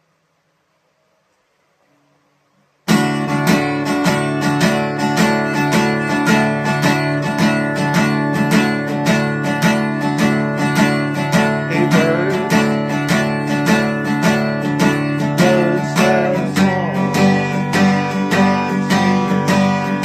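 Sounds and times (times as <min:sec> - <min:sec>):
acoustic guitar strumming: 0:02.9 - 0:20.0.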